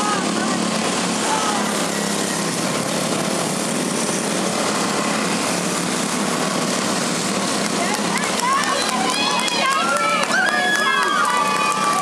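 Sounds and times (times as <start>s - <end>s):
small race car engines running: 0.0s - 12.0s.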